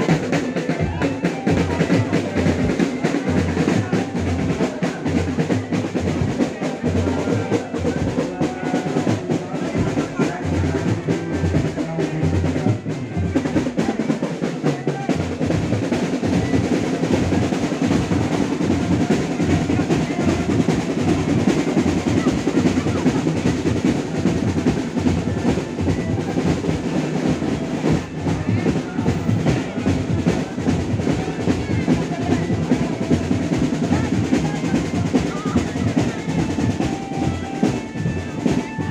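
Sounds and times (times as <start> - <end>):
drumming with rolls: 0.0 - 38.9.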